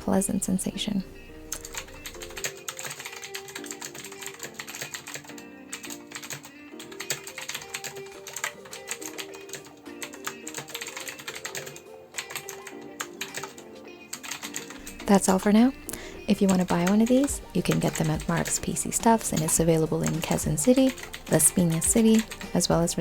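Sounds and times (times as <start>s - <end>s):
background music: 0.0s - 23.0s
clicky keyboard typing: 1.5s - 15.6s, 16.3s - 23.0s.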